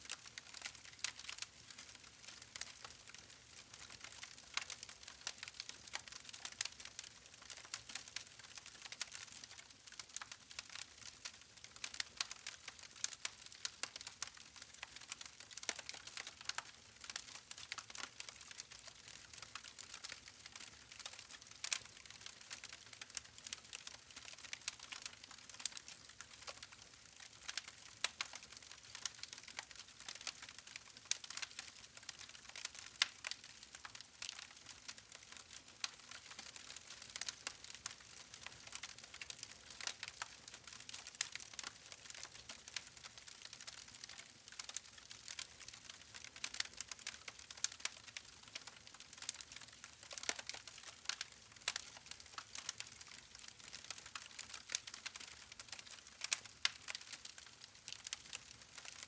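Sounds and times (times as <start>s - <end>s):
wood fire crackling and popping: 0.1s - 59.0s.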